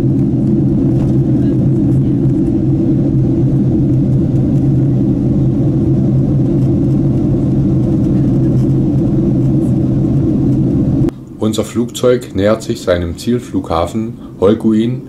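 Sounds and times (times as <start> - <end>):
constant low hum: 0.0 - 15.0
jet engine and airflow rumble: 0.0 - 15.0.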